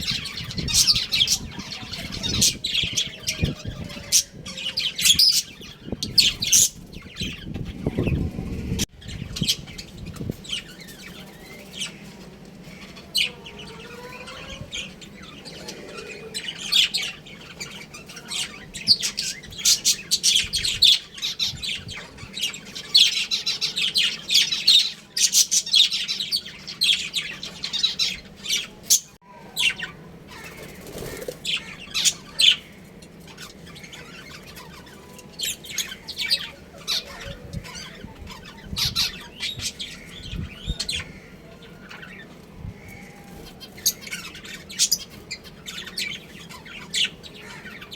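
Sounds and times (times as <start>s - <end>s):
budgerigars chirping and squawking: 0.0s - 47.9s.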